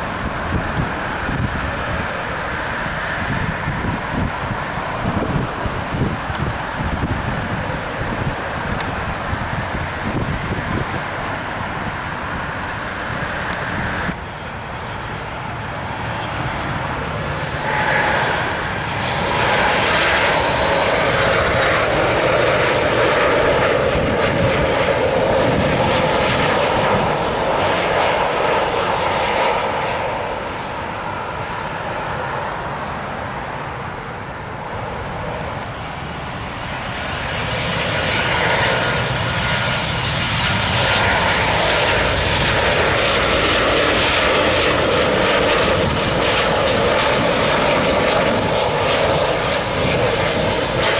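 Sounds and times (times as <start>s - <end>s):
high jet whine: 0.0s - 50.9s
jet engines roaring: 0.0s - 50.9s.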